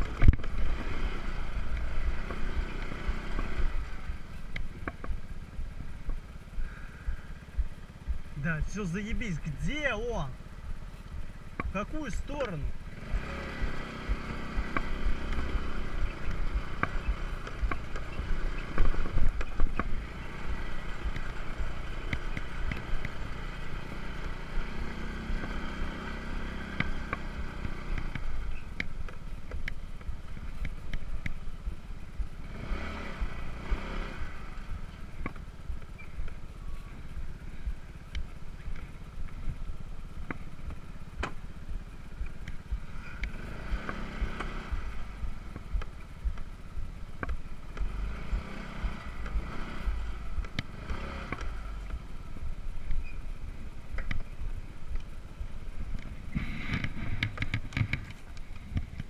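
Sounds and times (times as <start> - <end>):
scooter engine running: 0.0 - 8.4, 10.4 - 59.0
heavy low rumble: 0.0 - 59.0.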